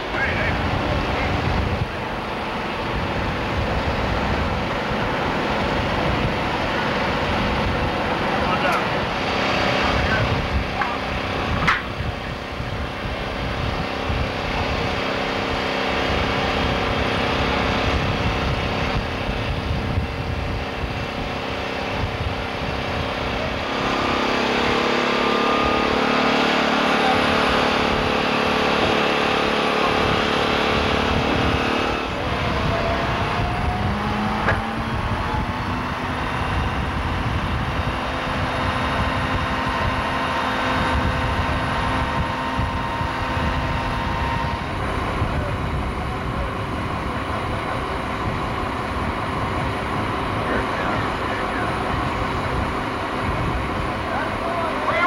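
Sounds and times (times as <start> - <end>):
crane engine running: 0.0 - 55.0.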